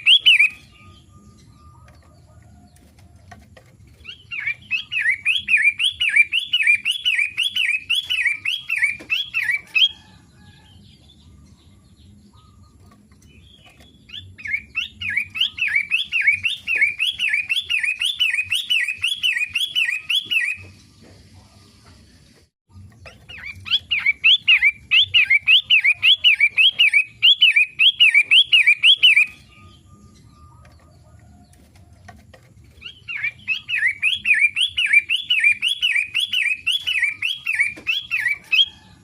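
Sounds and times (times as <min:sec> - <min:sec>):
shrike singing: 0:00.0 - 0:02.7, 0:04.0 - 0:20.8, 0:22.7 - 0:31.4, 0:32.8 - 0:39.0.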